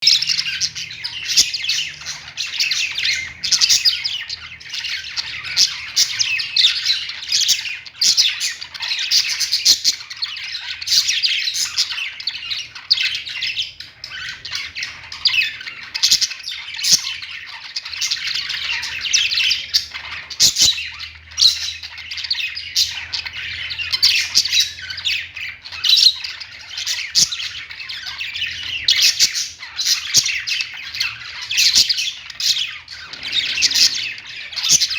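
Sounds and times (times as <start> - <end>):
many birds chirping and squawking: 0.0 - 34.9.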